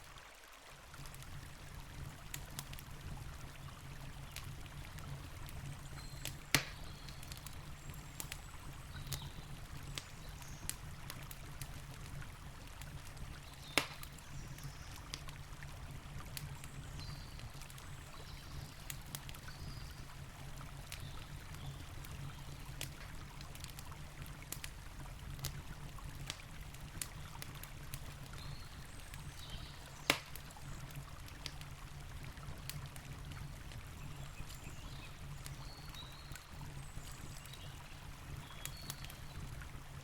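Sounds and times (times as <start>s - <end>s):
campfire crackling and popping: 0.7s - 40.0s.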